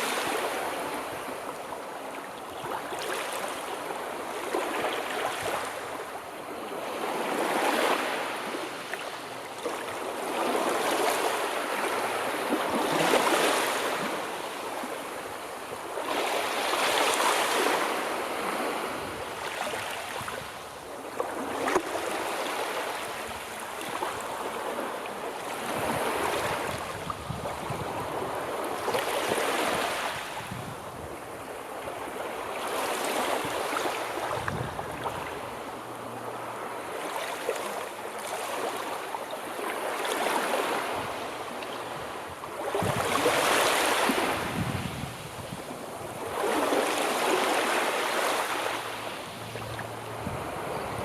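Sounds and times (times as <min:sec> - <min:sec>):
sea waves washing ashore: 0:00.0 - 0:51.0.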